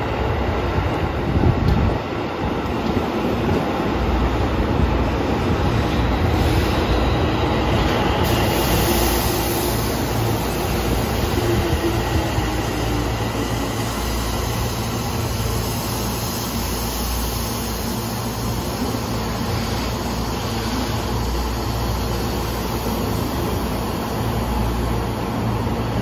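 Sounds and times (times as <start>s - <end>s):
subway train rumbling past: 0.0s - 26.0s.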